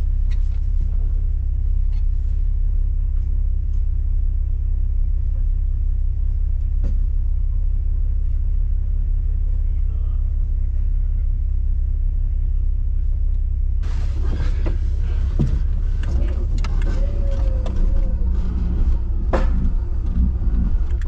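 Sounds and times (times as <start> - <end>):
off-road vehicle rumble: 0.0 - 21.0.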